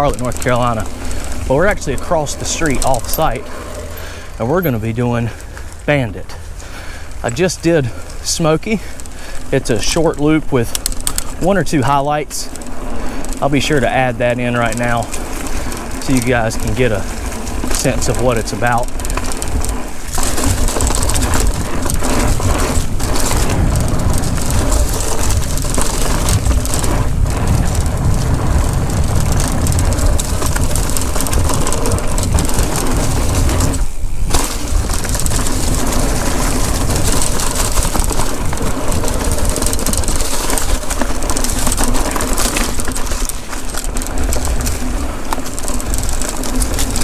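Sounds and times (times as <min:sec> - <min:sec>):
bike rattling: 0:00.0 - 0:47.0
bike tyres crunching leaves: 0:00.0 - 0:47.0
wind rumble on microphone: 0:00.0 - 0:47.0.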